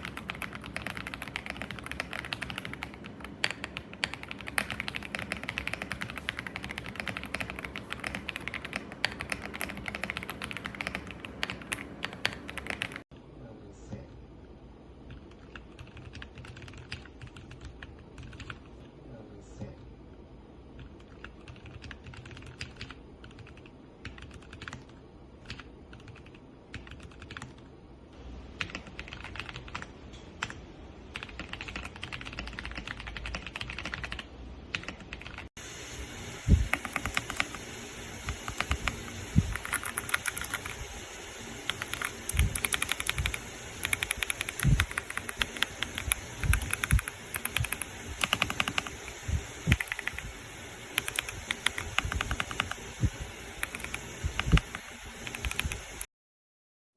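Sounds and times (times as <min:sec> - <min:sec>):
mechanical keyboard typing: 0:00.0 - 0:13.1, 0:15.1 - 0:18.7, 0:20.8 - 0:27.7, 0:28.6 - 0:35.5, 0:36.7 - 0:37.6, 0:38.3 - 0:40.8, 0:41.6 - 0:50.3, 0:51.0 - 0:52.8, 0:53.6 - 0:56.1.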